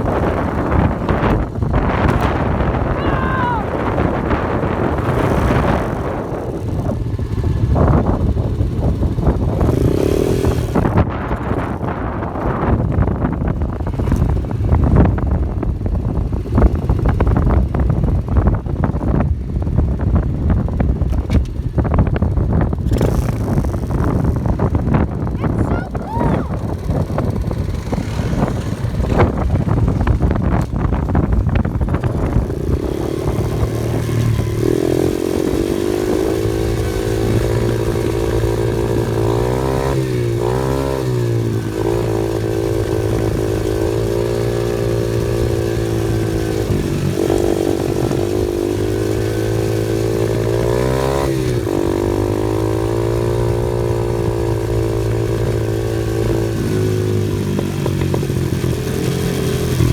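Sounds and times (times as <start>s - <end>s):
off-road vehicle engine running: 0.0s - 59.9s
wind noise: 0.0s - 59.9s.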